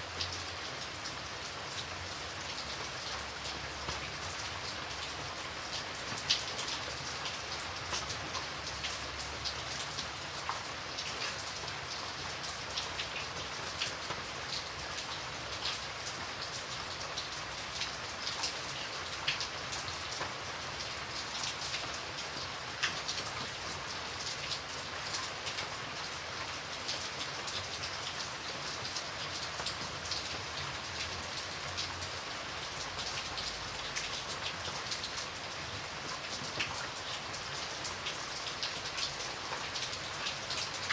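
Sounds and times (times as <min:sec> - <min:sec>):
light rain pattering: 0:00.0 - 0:40.9.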